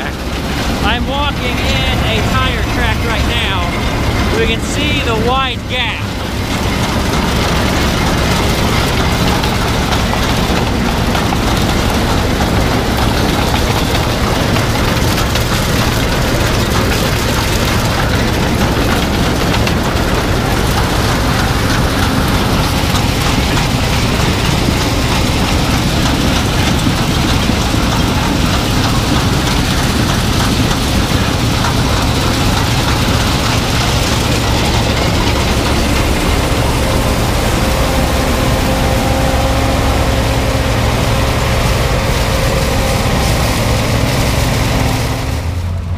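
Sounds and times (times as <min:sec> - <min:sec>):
combine harvester threshing: 0:00.0 - 0:45.9
engine low hum: 0:00.0 - 0:45.9.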